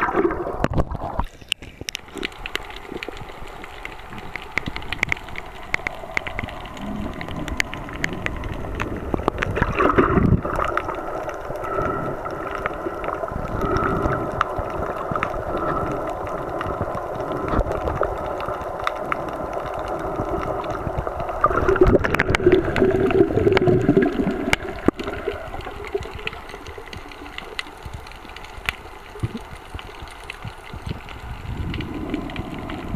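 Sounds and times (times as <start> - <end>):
underwater droning hum: 0.0 - 32.9
water noise: 0.0 - 32.9
faint clicks: 0.6 - 32.9.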